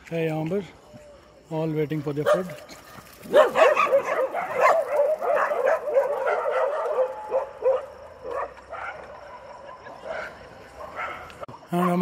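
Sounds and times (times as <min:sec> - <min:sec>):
dogs yipping and barking: 0:02.2 - 0:12.0.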